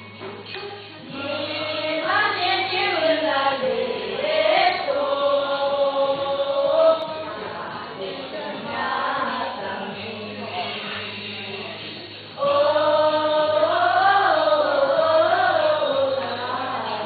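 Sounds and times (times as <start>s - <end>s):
young voices singing in unison: 0.0s - 17.0s.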